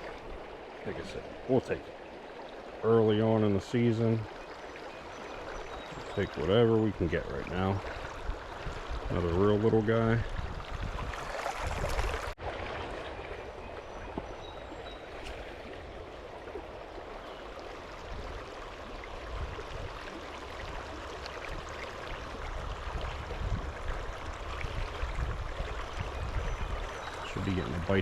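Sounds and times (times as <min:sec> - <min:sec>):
creek water rushing and gurgling: 0:00.0 - 0:28.0.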